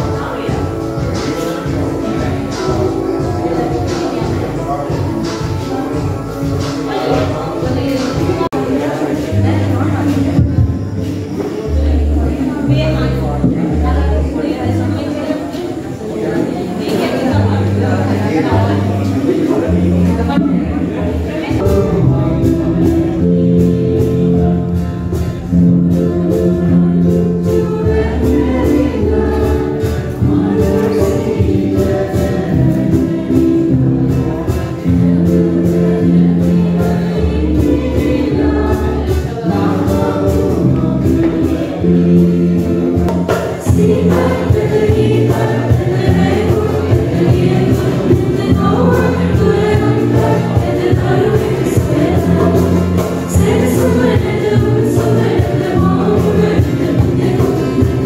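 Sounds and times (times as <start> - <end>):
choir singing a carol: 0.0 - 58.0
guitar: 0.0 - 58.0
keyboard: 0.0 - 58.0.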